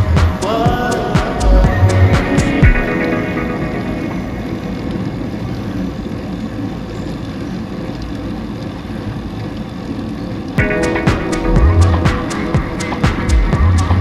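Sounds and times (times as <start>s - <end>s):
road noise: 0.0s - 9.7s, 10.3s - 14.0s.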